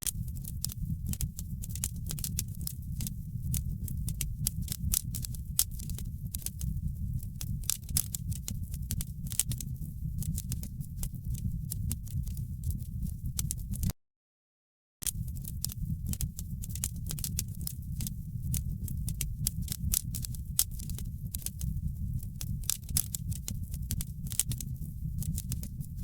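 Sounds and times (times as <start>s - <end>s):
wood fire crackling: 0.0s - 13.9s, 15.0s - 26.0s.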